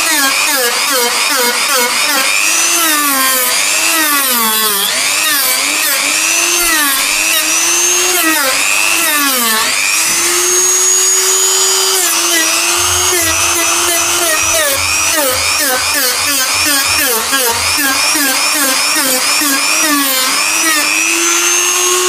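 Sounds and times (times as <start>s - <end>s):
rotary tool whining: 0.0s - 22.0s
sanding wheel grinding plastic: 0.0s - 22.0s.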